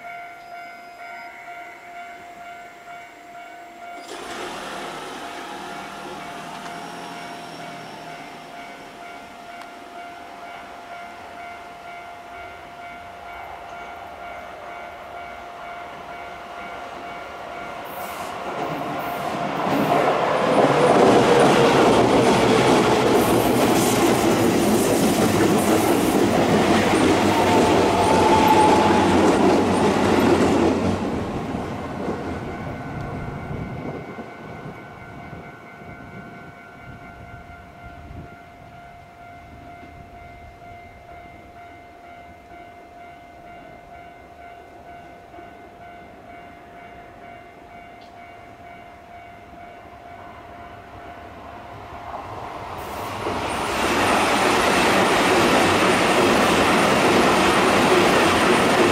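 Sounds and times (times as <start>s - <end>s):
commuter train passing: 0.0s - 58.9s.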